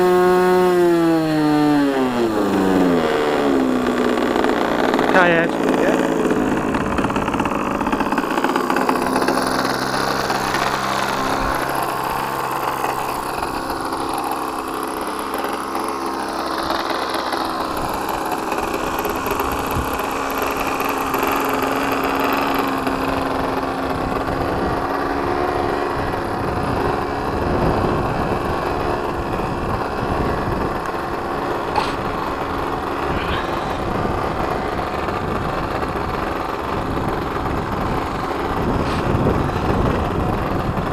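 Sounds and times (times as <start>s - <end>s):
model plane engine running: 0.0s - 40.9s.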